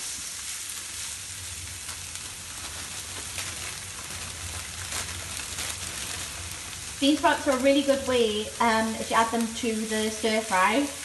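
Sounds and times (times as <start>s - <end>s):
vegetables sizzling in a frying pan: 0.0s - 11.0s
low steady hum: 0.1s - 11.0s.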